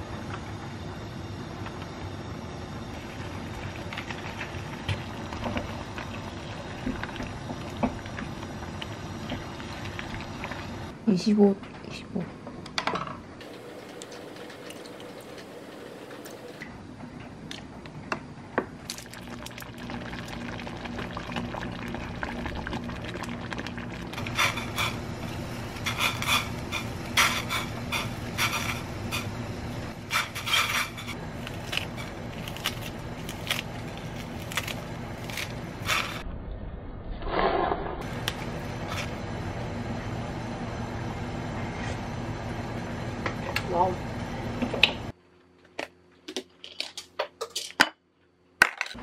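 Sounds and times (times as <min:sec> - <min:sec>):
steady low hum: 0:00.0 - 0:37.2, 0:37.9 - 0:46.3.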